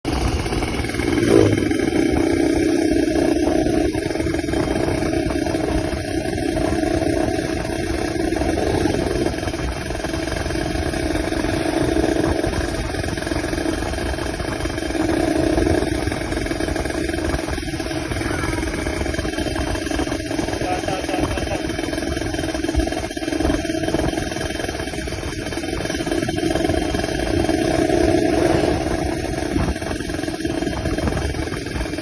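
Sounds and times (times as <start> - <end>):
motorcycle engine idling: 0.1 - 32.0.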